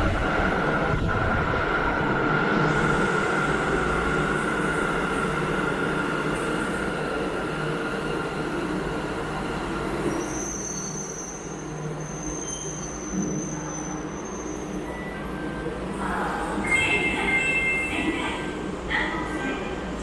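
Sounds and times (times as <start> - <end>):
high whine of train: 0.0 - 20.0
subway train rumbling: 0.0 - 20.0.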